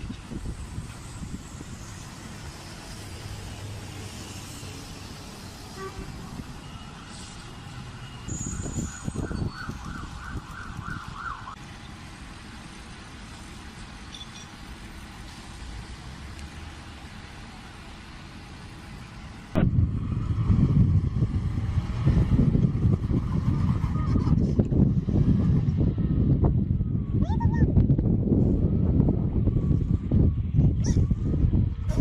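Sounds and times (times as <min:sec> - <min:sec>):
engine low rumble: 0:00.0 - 0:32.0.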